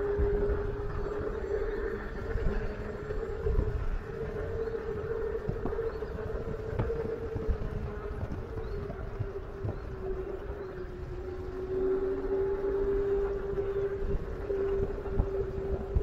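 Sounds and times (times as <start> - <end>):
electric bike motor whine: 0.0 - 16.0
wind buffeting microphone: 0.0 - 16.0.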